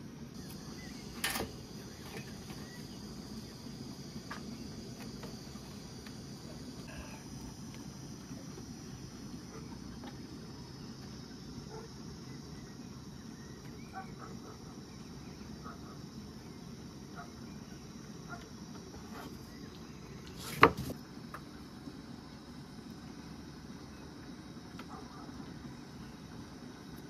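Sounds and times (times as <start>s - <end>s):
crickets chirping: 0.0s - 27.0s
low background hum: 0.0s - 27.0s.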